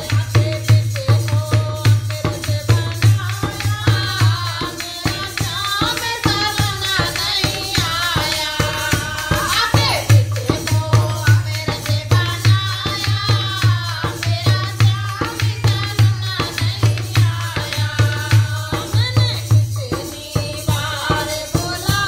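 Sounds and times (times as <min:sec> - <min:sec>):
barrel drum rhythm: 0:00.0 - 0:22.0
jingling hand percussion: 0:00.0 - 0:22.0
women singing in chorus: 0:00.0 - 0:22.0
hand clapping: 0:01.8 - 0:20.1.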